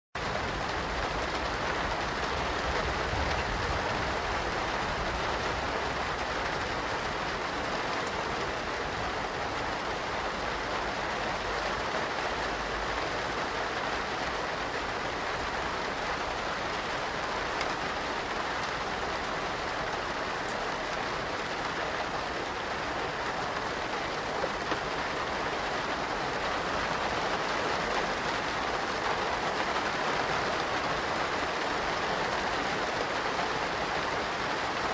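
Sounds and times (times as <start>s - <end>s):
rain falling: 0.2s - 34.9s.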